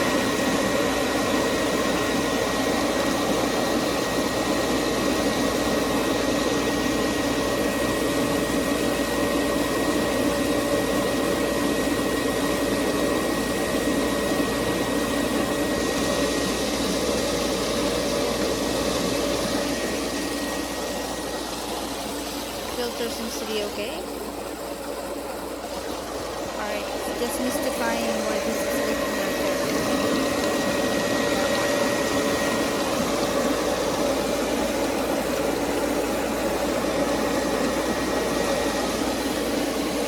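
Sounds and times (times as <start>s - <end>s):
pool pump motor humming: 0.0s - 40.0s.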